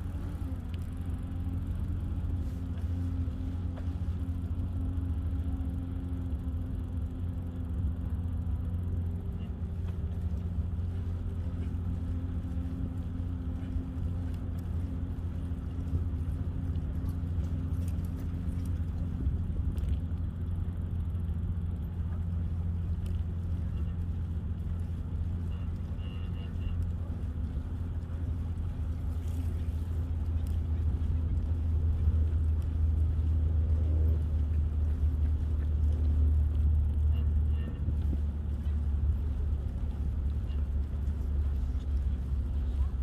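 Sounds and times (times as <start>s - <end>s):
bicycle rolling noise: 0.0s - 43.0s
wind rumble on microphone: 0.0s - 43.0s.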